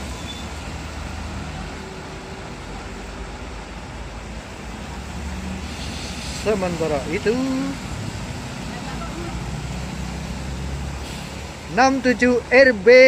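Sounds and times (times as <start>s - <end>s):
engine rumble of traffic: 0.0s - 13.0s
tyres hissing on wet road: 0.0s - 13.0s.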